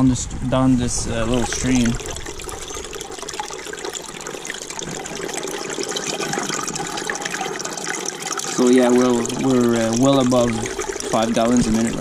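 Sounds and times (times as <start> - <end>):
water splashing into bucket: 1.1 - 12.0.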